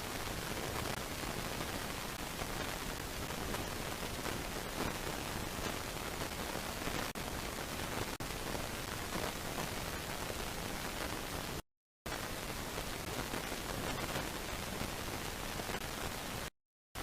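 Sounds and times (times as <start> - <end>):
steady audio feed hiss: 0.0 - 17.0.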